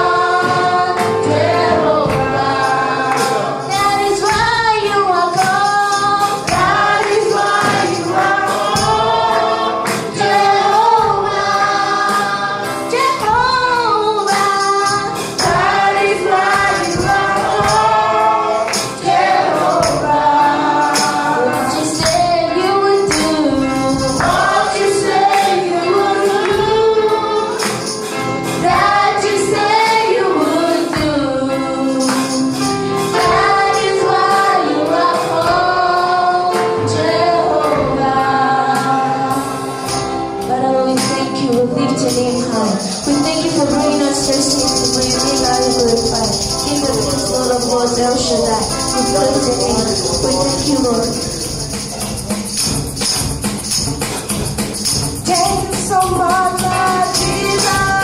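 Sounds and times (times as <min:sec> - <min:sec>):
tambourine: 0:00.0 - 0:35.4, 0:39.4 - 0:58.0
congregation singing gospel: 0:00.0 - 0:58.0.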